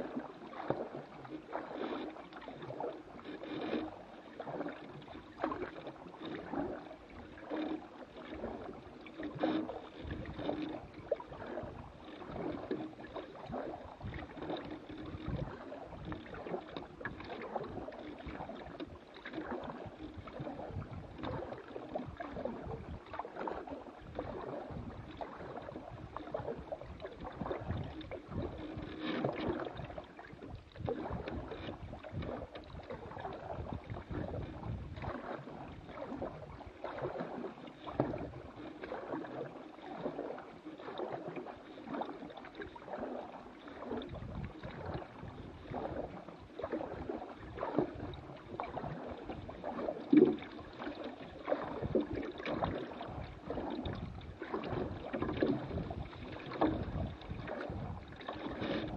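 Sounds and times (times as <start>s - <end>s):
water splashing against canoe hull: 0.0s - 58.9s.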